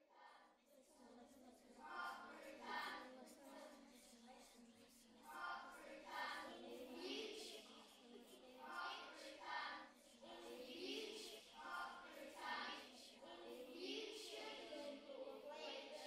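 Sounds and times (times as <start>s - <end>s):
children chanting: 0.0s - 16.0s.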